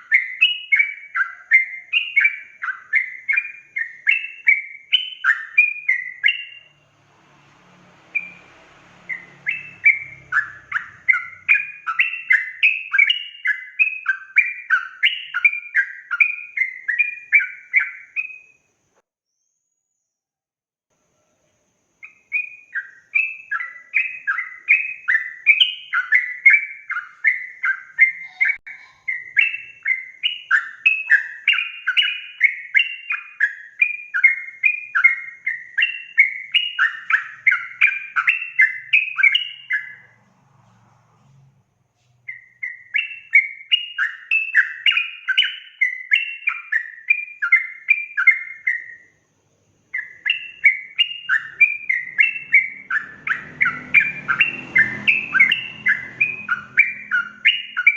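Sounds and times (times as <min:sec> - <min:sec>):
bulbul chattering song: 0:00.0 - 0:18.7, 0:22.0 - 0:40.2, 0:42.2 - 0:57.9.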